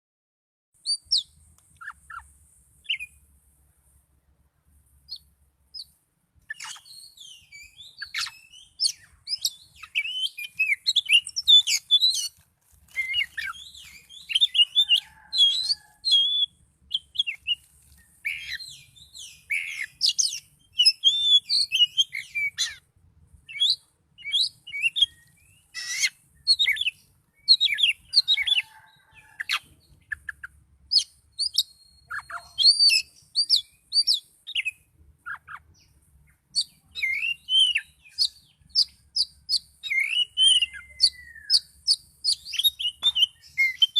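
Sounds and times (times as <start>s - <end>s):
bird singing varied song: 0.8s - 3.3s, 4.9s - 43.9s.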